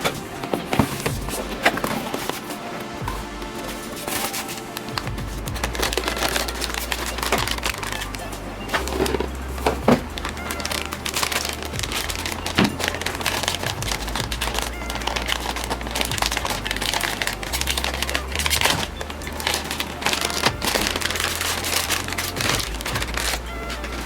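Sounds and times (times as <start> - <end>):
hands handling computer parts: 0.0 - 24.0.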